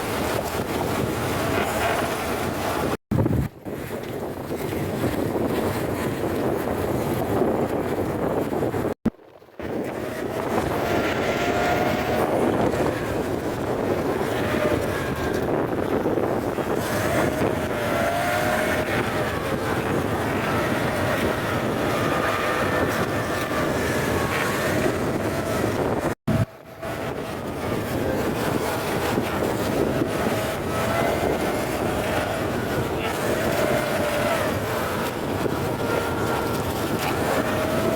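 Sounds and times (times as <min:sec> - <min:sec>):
motorboat engine running: 0:00.0 - 0:37.9
wind on microphone: 0:00.0 - 0:37.9.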